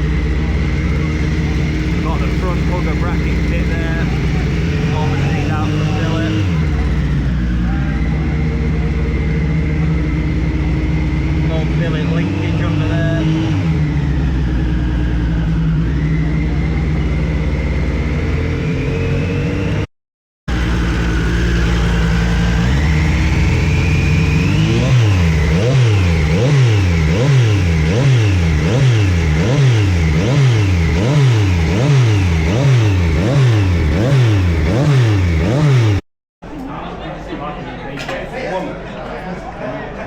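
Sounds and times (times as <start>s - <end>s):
motorcycle engine revving: 0.0s - 19.9s, 20.5s - 36.0s.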